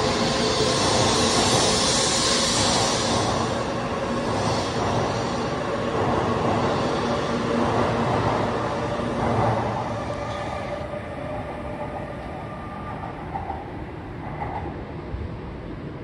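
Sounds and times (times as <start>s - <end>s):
train rushing past with whine: 0.0s - 16.0s.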